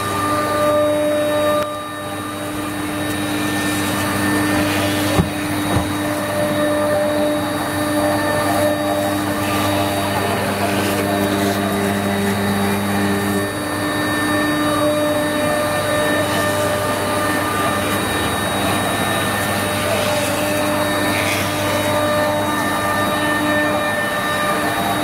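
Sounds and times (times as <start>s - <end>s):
cutter milling foam hiss: 0.0s - 25.0s
router spindle whine: 0.0s - 25.0s.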